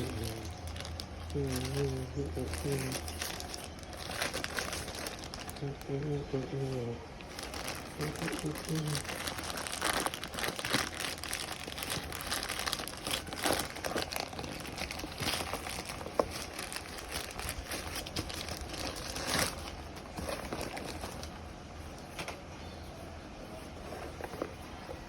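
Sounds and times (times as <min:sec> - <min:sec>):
packaging crinkling and rustling: 0:00.0 - 0:22.4, 0:23.5 - 0:25.0.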